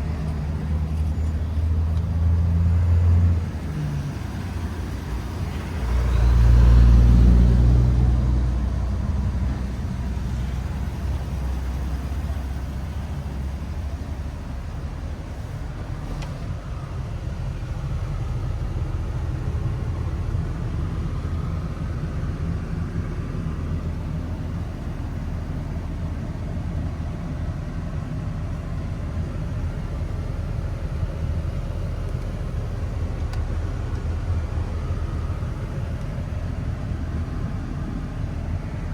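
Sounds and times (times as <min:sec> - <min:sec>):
engine idling with low rumble: 0:00.0 - 0:38.9.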